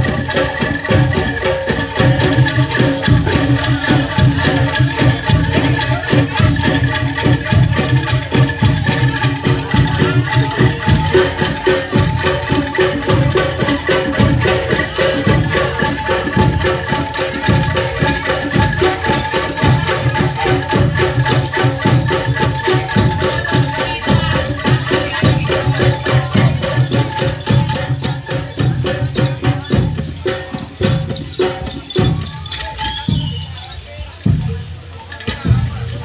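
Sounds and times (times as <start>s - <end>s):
gamelan music: 0.0s - 36.0s.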